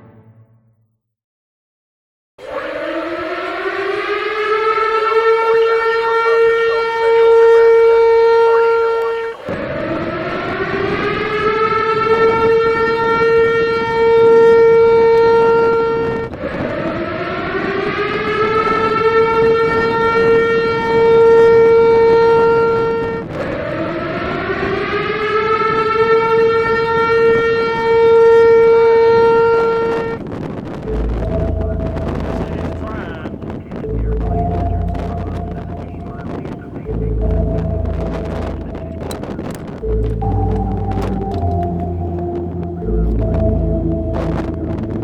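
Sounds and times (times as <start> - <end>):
warning siren wailing: 2.4 - 45.0.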